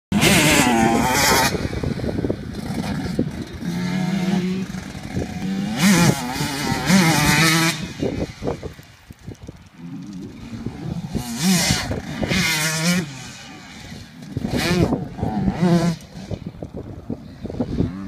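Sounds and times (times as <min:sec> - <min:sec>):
motocross bike engine revving: 0:00.1 - 0:18.0.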